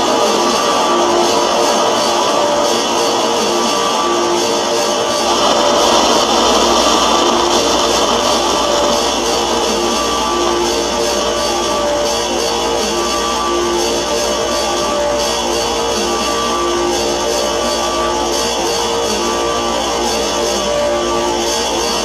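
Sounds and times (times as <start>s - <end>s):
distorted noise music: 0.0s - 22.0s.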